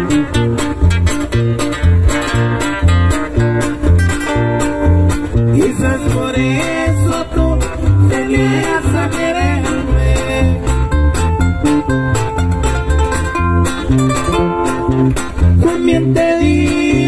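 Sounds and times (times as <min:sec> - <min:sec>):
electric bass line: 0:00.0 - 0:17.0
nylon-string acoustic guitar melody: 0:00.0 - 0:17.0.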